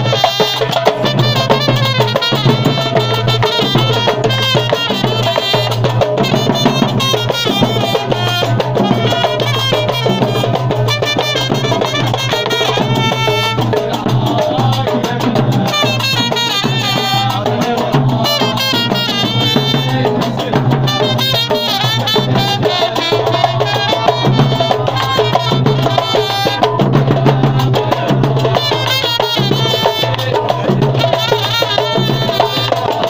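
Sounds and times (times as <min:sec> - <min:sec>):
trumpet melody: 0:00.0 - 0:14.0, 0:15.6 - 0:33.0
frame drum and darbuka beat: 0:00.0 - 0:33.0.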